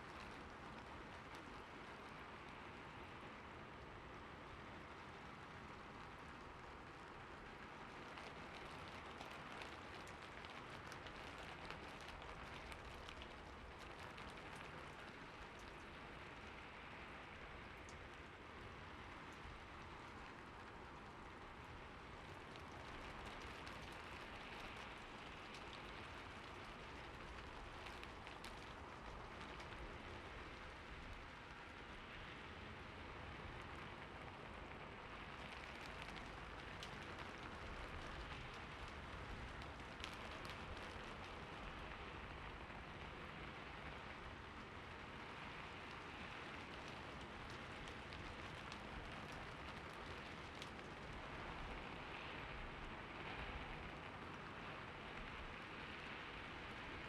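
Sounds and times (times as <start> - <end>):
rain drops pattering: 0.0 - 57.0.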